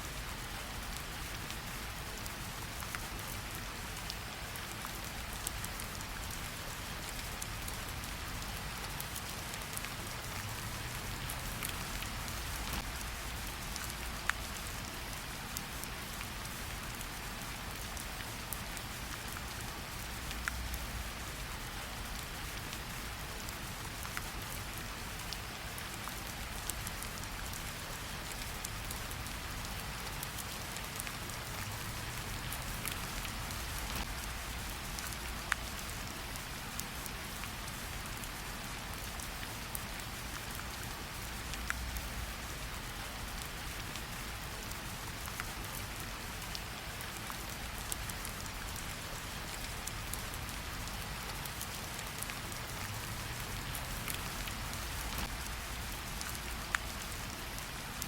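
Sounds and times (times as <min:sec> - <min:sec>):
rain pattering on leaves: 0:00.0 - 0:58.0.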